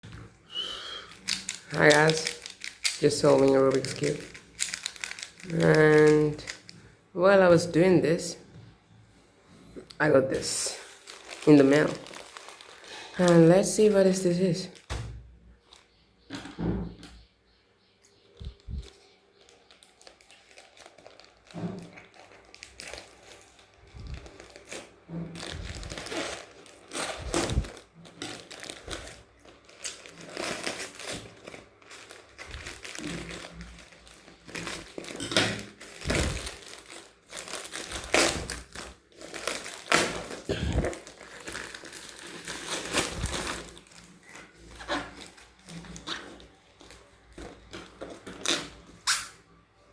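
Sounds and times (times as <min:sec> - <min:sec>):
packaging crinkling and tearing: 0:00.1 - 0:06.8, 0:10.0 - 0:14.9, 0:18.5 - 0:49.4.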